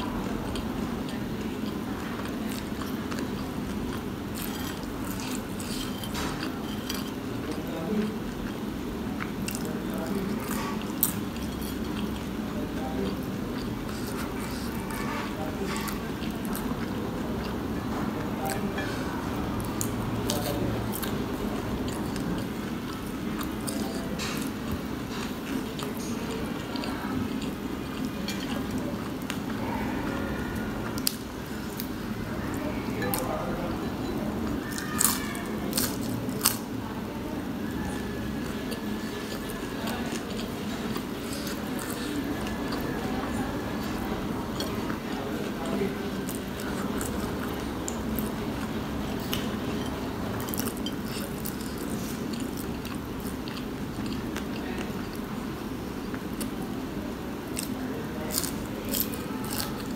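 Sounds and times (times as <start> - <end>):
wet chewing: 0.0 - 33.4, 34.1 - 36.8, 37.6 - 59.9
steady low background noise: 0.0 - 59.9.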